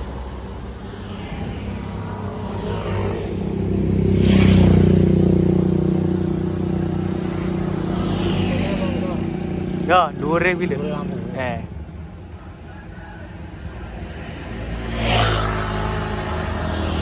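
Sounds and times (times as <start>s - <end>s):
vehicle passing close: 0.0s - 17.0s.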